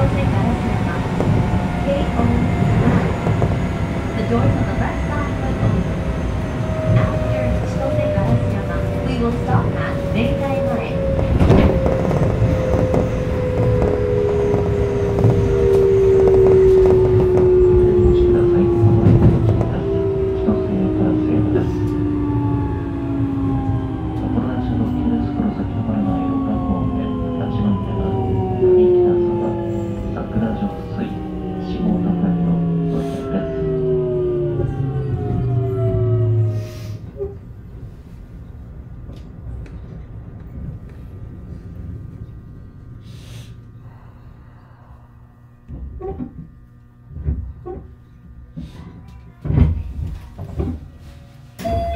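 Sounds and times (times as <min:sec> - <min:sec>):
low rumble of running train: 0:00.0 - 0:51.9
train inverter whining: 0:00.0 - 0:51.9.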